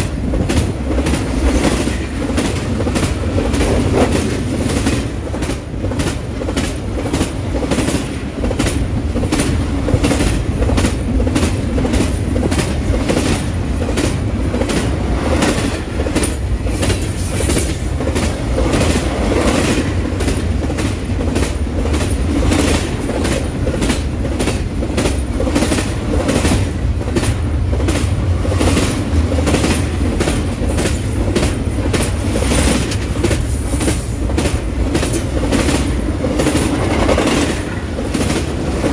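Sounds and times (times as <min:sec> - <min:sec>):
freight train rumble: 0:00.0 - 0:38.9
train wheels clicking over rail joints: 0:00.0 - 0:38.9.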